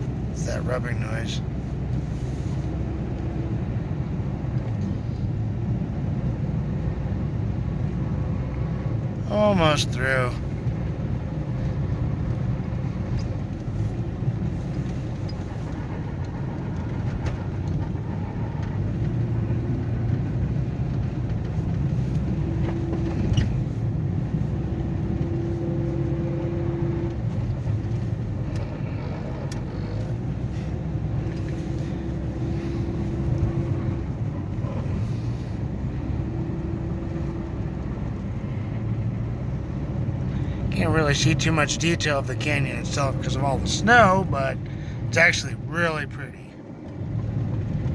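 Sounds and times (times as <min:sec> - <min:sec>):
car engine and tire rumble: 0:00.0 - 0:09.3, 0:10.0 - 0:41.1, 0:46.5 - 0:47.9.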